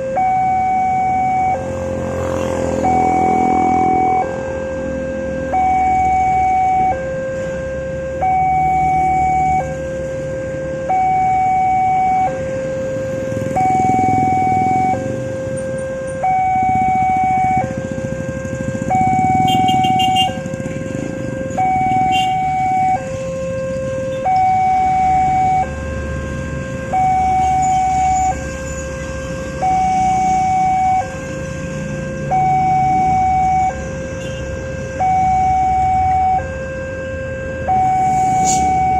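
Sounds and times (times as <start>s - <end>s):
level crossing two-tone alarm: 0.0s - 2.0s, 2.6s - 7.3s, 8.2s - 9.9s, 10.8s - 12.6s, 13.4s - 20.5s, 21.1s - 38.9s.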